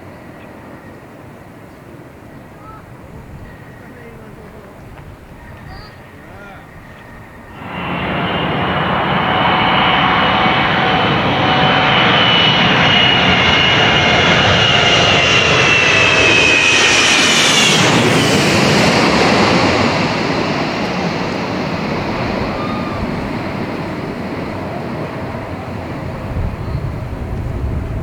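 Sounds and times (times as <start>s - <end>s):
jet airliner passing overhead: 0.0s - 28.0s.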